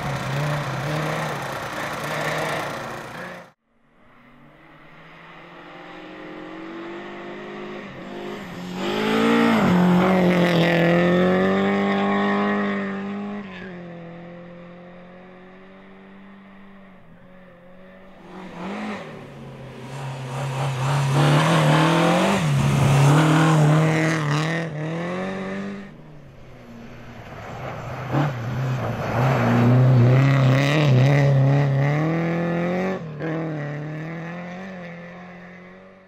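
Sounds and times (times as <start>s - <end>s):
rally car engines revving past: 0.0s - 36.0s.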